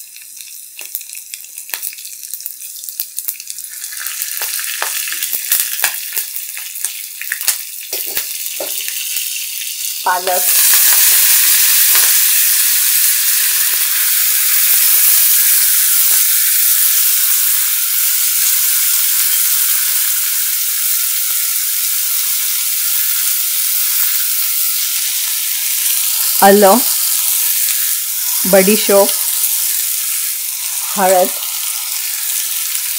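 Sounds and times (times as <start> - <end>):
spinach sizzling in hot oil: 0.0 - 32.9.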